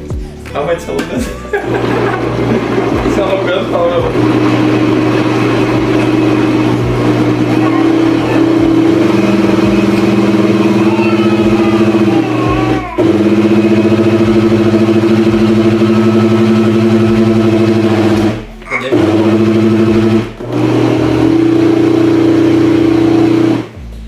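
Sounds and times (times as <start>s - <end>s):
electric blender motor running: 1.6s - 23.8s.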